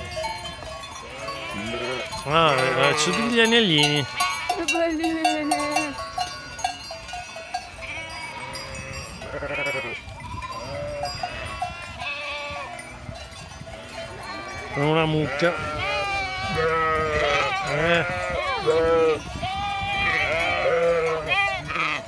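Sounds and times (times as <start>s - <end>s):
sheep and lambs bleating: 0.0s - 6.8s, 7.4s - 22.0s
animal bells clanking: 0.0s - 22.0s.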